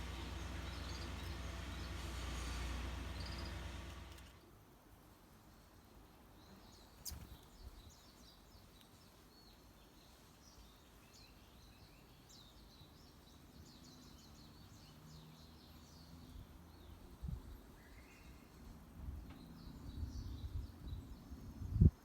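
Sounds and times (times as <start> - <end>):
small birds chirping: 0.0 - 4.3, 6.3 - 22.0.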